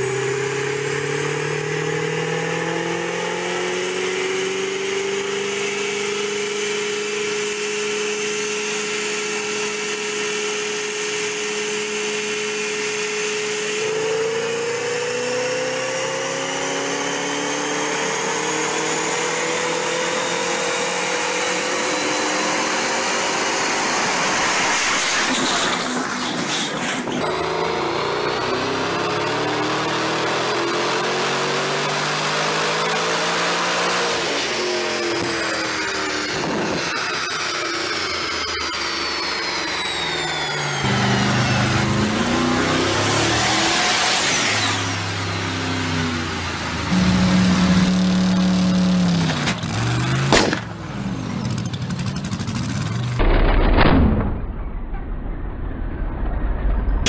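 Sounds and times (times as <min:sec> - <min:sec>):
car engine revving high: 0:00.0 - 0:25.7, 0:27.2 - 0:51.4.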